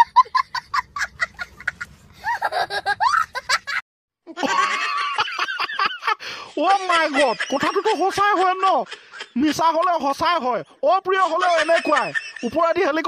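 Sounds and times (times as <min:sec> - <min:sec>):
young child laughing: 0:00.0 - 0:09.9, 0:11.2 - 0:12.7.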